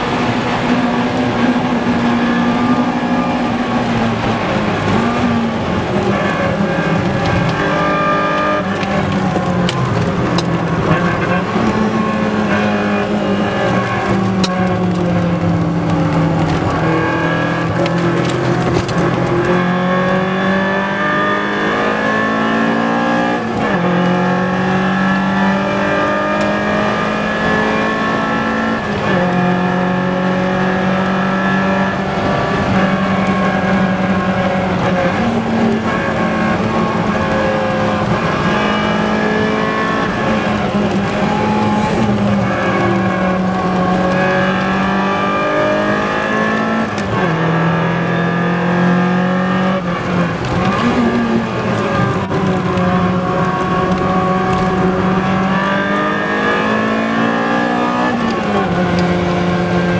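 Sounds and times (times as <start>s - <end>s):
sports car engine at full throttle: 0.0s - 59.9s.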